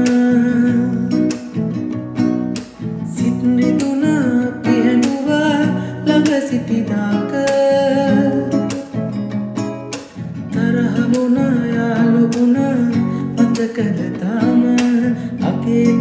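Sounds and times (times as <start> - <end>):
man singing: 0.0 - 1.6, 3.0 - 9.2, 10.5 - 16.0
strummed acoustic guitar: 0.0 - 16.0.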